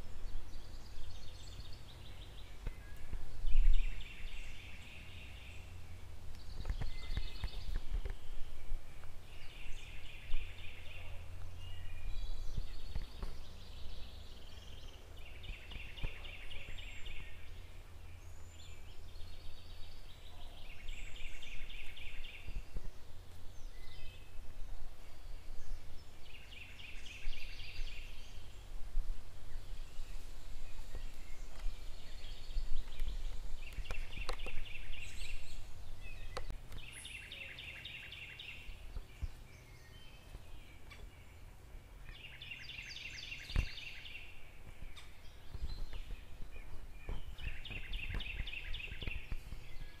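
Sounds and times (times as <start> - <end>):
low steady rumble: 0.0 - 50.0.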